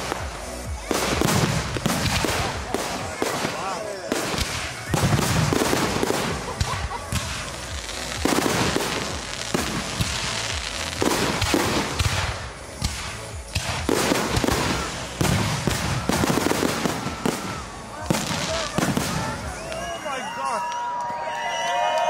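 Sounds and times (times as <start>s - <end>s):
fireworks bursts: 0.0s - 20.8s
fireworks crackling: 0.0s - 22.0s.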